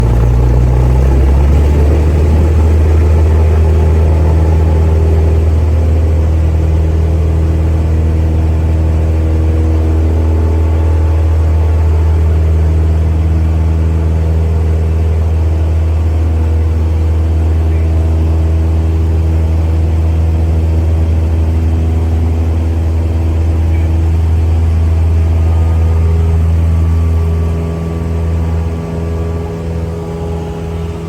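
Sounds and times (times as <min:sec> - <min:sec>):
airplane piston engine running: 0:00.0 - 0:31.0.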